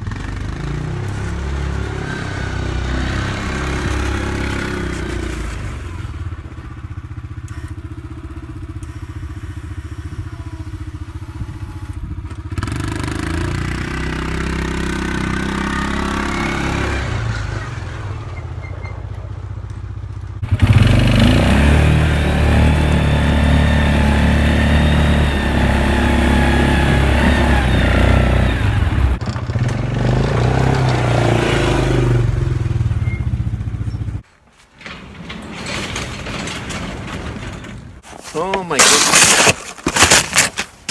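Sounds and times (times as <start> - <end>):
atv engine under load: 0.0 - 18.5, 19.3 - 34.2, 34.8 - 40.9
plow blade pushing snow: 0.0 - 18.8, 20.4 - 40.9.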